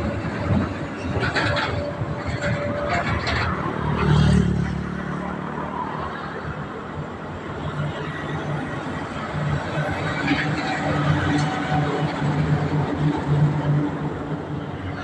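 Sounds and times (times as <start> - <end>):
dump trucks passing: 0.0 - 15.0.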